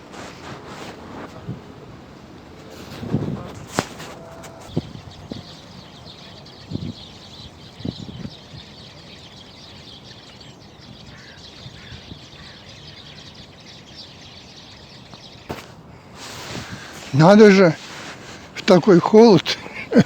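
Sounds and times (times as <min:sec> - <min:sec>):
flock of small birds chirping: 0:00.0 - 0:20.0.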